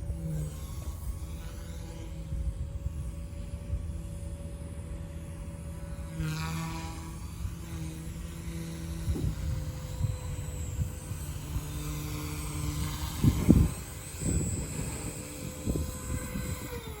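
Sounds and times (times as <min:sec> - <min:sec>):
toy helicopter rotor whine: 0:00.0 - 0:17.0
wind buffeting microphone: 0:00.0 - 0:17.0.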